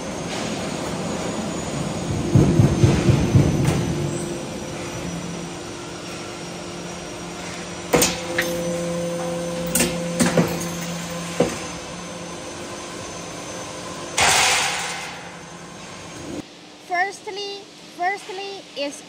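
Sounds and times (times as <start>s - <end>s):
roll forming machine humming: 0.0s - 16.8s.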